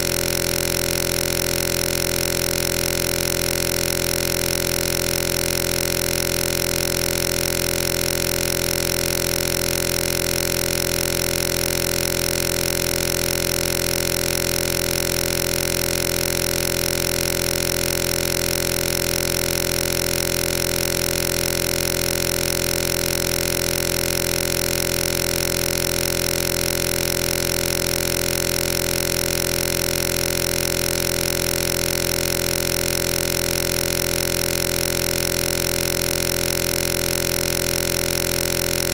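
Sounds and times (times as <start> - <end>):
steady electronic buzz: 0.0 - 38.9.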